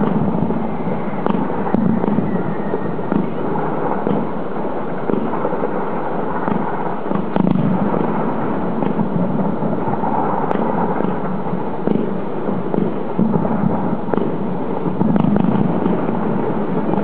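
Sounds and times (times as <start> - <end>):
distant fireworks bangs and crackling: 0.0 - 17.0.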